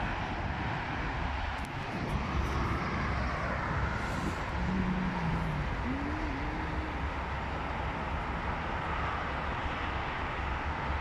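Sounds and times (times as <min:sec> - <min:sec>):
traffic rumble: 0:00.0 - 0:11.0
car engine hum approaching: 0:01.0 - 0:11.0.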